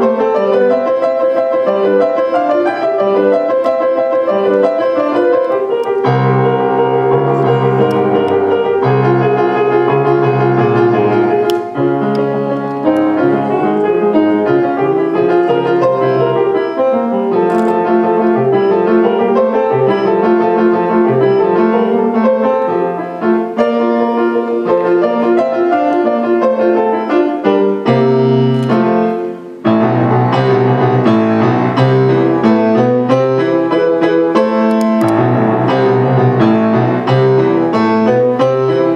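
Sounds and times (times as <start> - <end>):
solo grand piano: 0.0 - 38.9.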